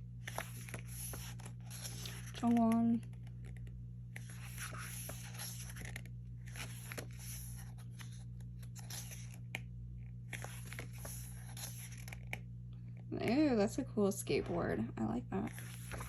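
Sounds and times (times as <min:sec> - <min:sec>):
steady low hum: 0:00.0 - 0:16.0
glossy pages rustling: 0:00.2 - 0:12.5, 0:15.4 - 0:16.0.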